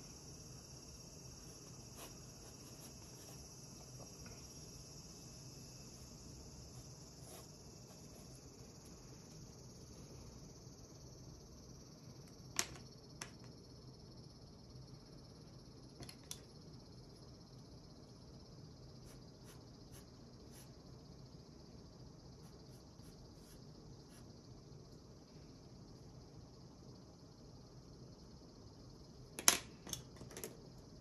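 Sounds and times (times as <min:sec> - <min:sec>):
steady high hiss: 0:00.0 - 0:30.1.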